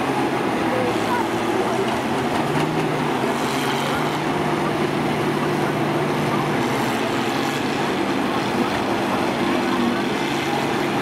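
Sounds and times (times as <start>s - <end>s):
combine harvester engines droning: 0.0s - 11.0s.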